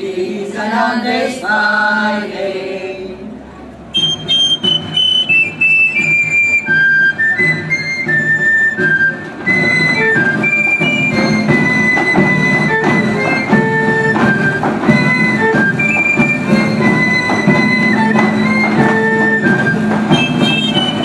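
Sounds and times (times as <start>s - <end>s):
rhythmic accompaniment: 3.9s - 21.0s
folk dance tune on high pipe: 4.0s - 21.0s.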